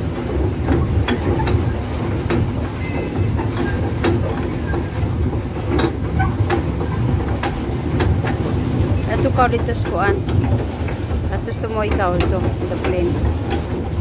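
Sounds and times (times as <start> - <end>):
pedal drive clacks: 0.0 - 14.0.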